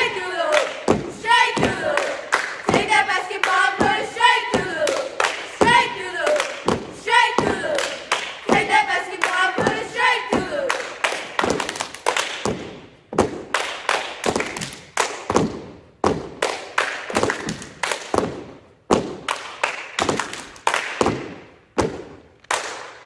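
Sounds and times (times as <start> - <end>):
clapping and stomping on wooden floor: 0.5 - 23.0.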